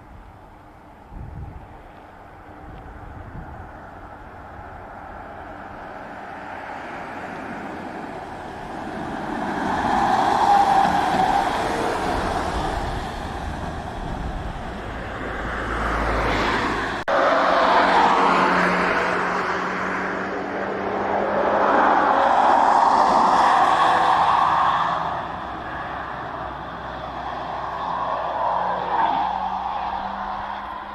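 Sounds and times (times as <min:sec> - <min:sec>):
car passing with tyre noise: 0:00.0 - 0:30.9.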